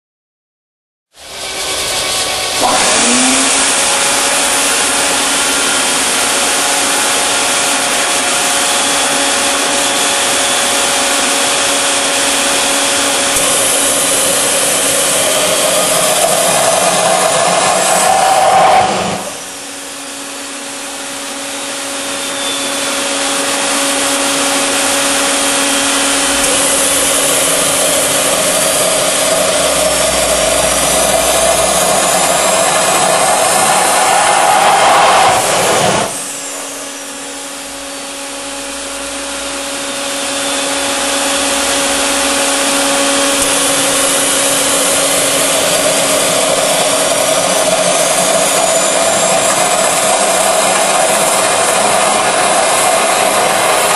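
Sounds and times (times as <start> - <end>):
gas turbine engine with whine: 1.2 - 53.9.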